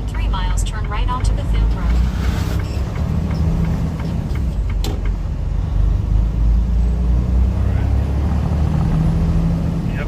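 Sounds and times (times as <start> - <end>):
truck diesel engine rumble: 0.0 - 10.0.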